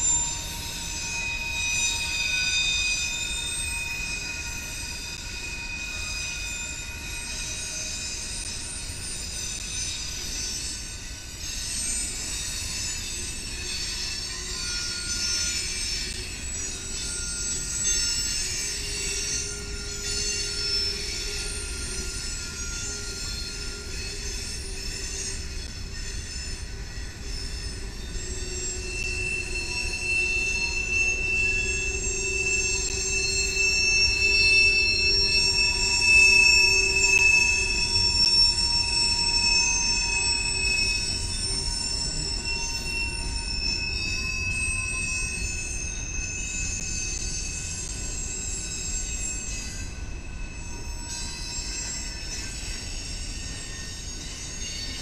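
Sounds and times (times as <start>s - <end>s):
train wheels squealing: 0.0s - 55.0s.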